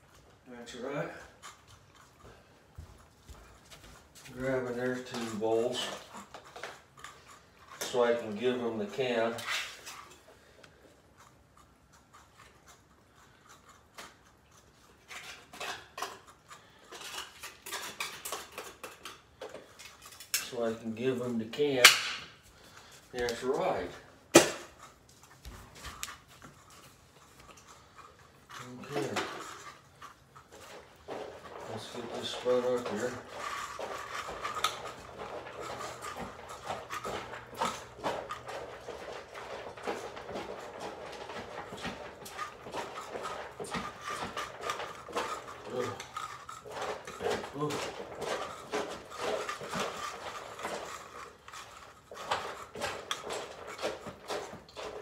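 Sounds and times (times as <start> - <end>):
utensil clinking on cat bowls: 0.0 - 10.9, 13.4 - 55.0.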